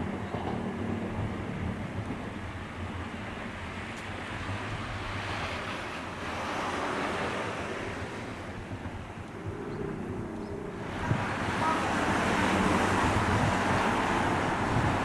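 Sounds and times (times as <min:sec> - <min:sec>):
train rolling by: 0:00.0 - 0:09.3, 0:10.1 - 0:15.0.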